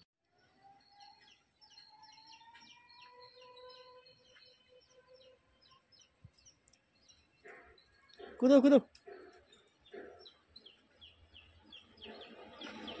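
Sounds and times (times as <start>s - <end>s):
faint birds chirping: 0.2s - 13.0s.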